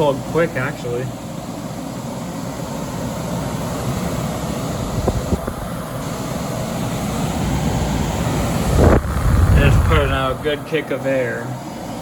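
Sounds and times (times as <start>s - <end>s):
air conditioner fan rushing: 0.0s - 12.0s.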